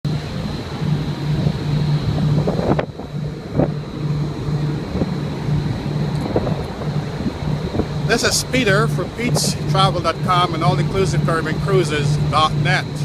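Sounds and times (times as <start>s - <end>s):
low hum: 0.0s - 13.0s
wind buffeting microphone: 0.1s - 13.0s.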